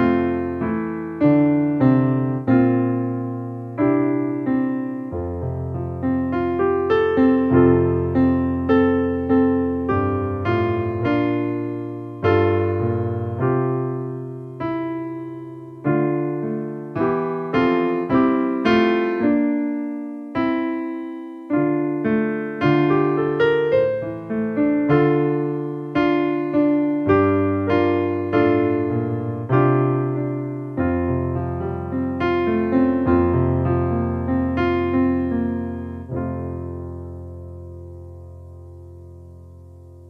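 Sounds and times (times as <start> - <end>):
solo piano music: 0.0 - 40.0.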